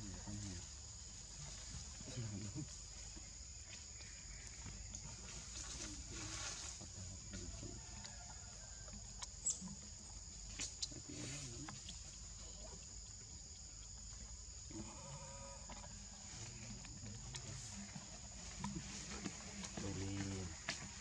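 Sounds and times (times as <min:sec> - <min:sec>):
high-pitched forest hiss: 0:00.0 - 0:21.0
macaques making soft sounds: 0:00.0 - 0:21.0.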